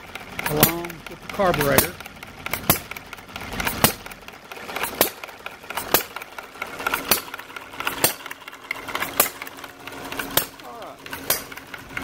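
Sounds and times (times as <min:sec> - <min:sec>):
light mechanical ticking: 0:00.0 - 0:12.0
small engine running: 0:00.0 - 0:12.0
sharp engine click: 0:00.2 - 0:12.0.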